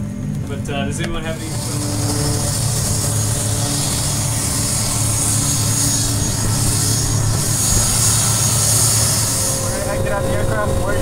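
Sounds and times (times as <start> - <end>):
high engine whine: 0.0 - 11.0
turboprop engines droning: 0.0 - 11.0.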